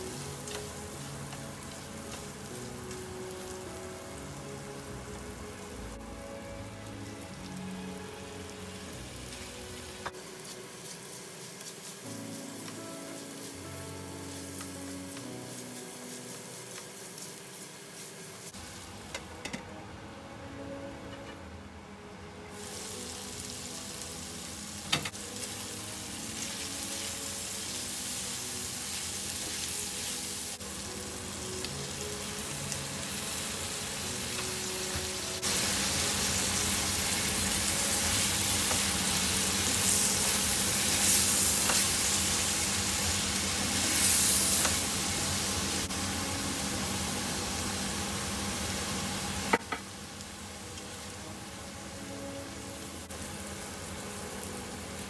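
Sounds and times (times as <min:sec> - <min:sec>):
food sizzling in a pan: 0:00.0 - 0:19.6, 0:22.5 - 0:55.0.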